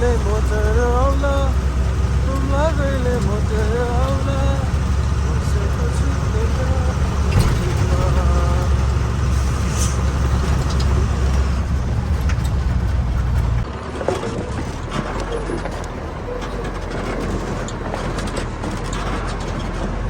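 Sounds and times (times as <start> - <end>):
clicks and rattles: 0.0 - 20.0
road noise: 0.0 - 20.0
truck engine droning: 0.0 - 20.0.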